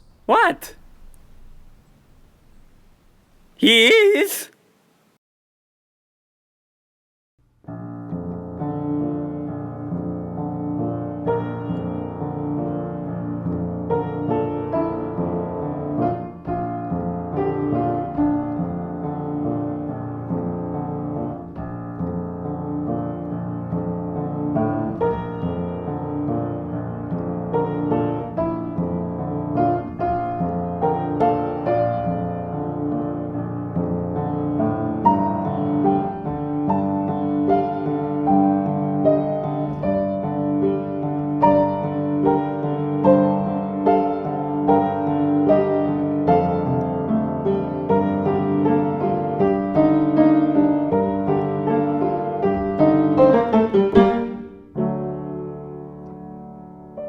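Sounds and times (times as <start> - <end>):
piano film score music: 7.5 - 57.0.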